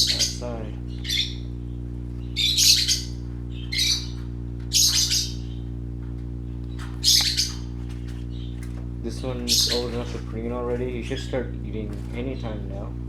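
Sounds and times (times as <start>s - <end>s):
budgerigars squawking: 0.0s - 5.7s, 6.7s - 12.9s
low electrical hum: 0.0s - 13.0s.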